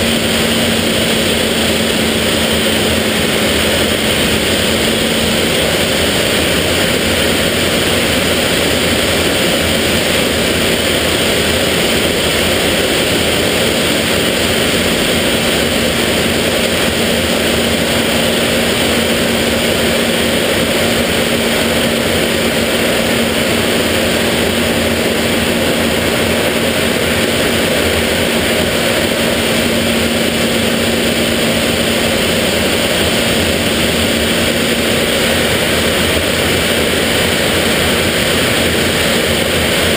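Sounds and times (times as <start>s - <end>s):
constant low hum: 0.0s - 39.9s
jet engine in flight: 0.0s - 39.9s
rush of air over canopy: 0.0s - 39.9s.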